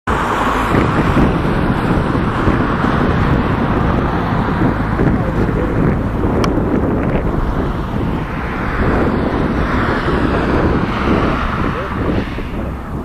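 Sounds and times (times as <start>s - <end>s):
jet engines at takeoff power: 0.1s - 13.0s.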